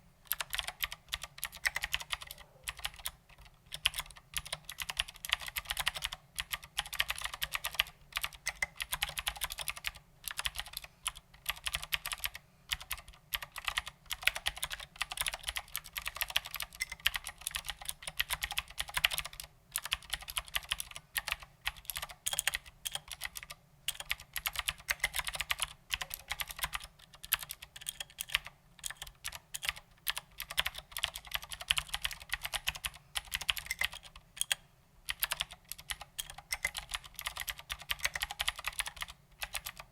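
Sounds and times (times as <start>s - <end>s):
typing on mechanical keyboard: 0.2s - 39.9s.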